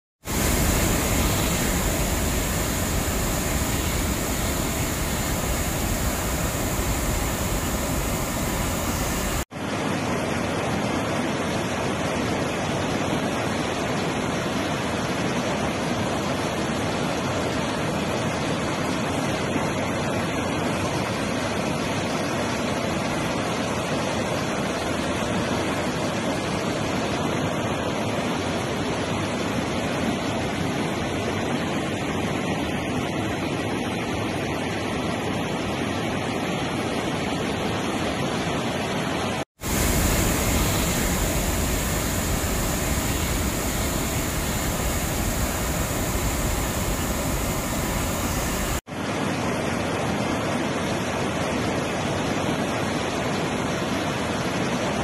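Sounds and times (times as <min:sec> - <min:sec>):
waterfall and flooded river rushing: 0:00.3 - 0:55.0.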